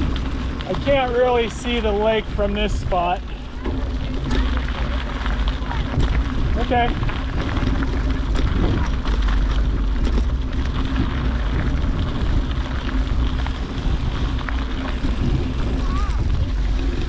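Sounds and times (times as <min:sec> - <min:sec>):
bicycle tyres rolling hum: 0:00.0 - 0:17.0
wind rushing over microphone: 0:00.0 - 0:17.0.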